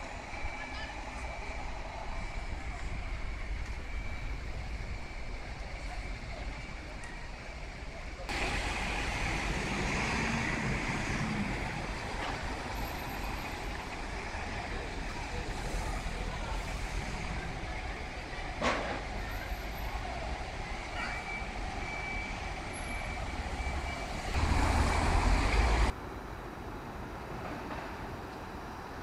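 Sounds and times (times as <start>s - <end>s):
street traffic: 0.0s - 29.0s.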